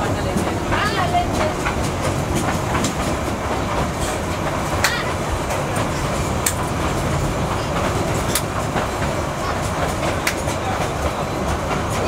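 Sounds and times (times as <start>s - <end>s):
rumble of wheels on track: 0.0s - 12.0s.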